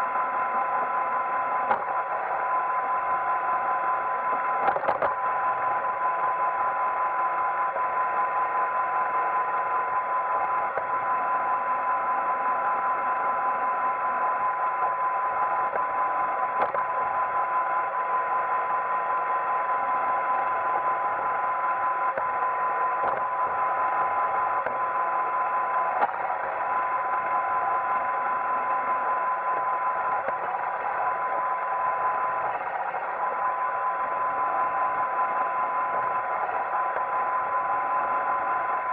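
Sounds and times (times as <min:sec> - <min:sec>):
robot vacuum motor whine: 0:00.0 - 0:38.9.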